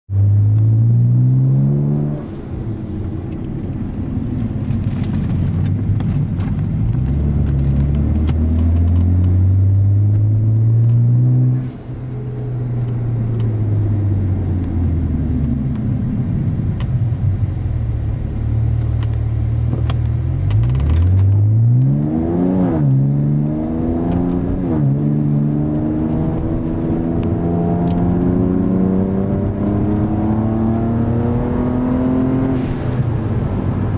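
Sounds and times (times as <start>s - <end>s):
car engine revving through gears: 0.1s - 2.6s, 4.8s - 16.0s, 18.6s - 33.9s.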